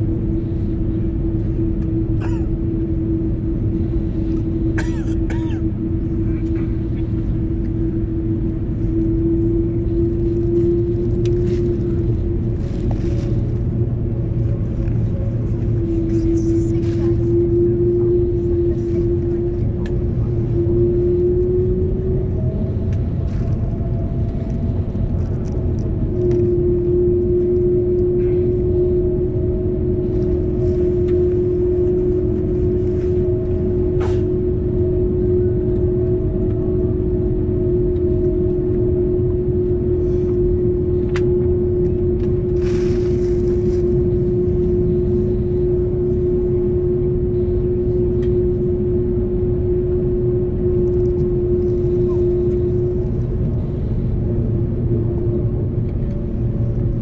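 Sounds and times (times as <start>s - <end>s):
airliner cabin rumble: 0.0s - 57.0s
constant hum: 0.0s - 57.0s.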